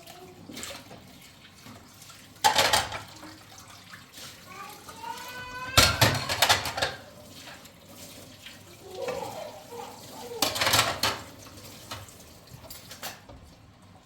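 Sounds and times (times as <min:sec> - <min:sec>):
water splashing: 0:00.0 - 0:12.7.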